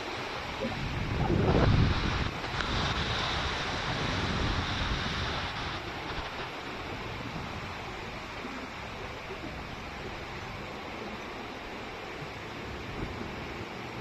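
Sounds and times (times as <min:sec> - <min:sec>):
wind gusting against microphone: 0:00.0 - 0:14.0.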